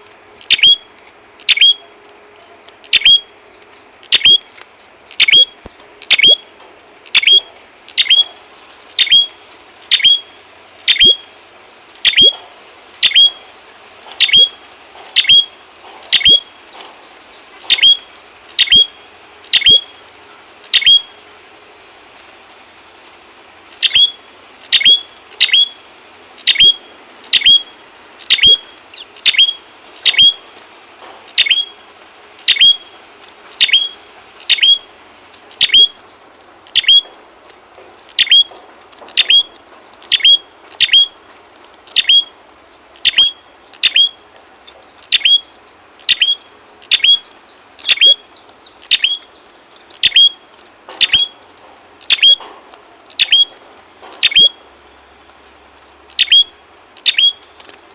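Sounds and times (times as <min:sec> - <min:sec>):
songbird chirps: 0:00.0 - 0:21.4, 0:23.7 - 0:52.5, 0:53.1 - 0:57.8.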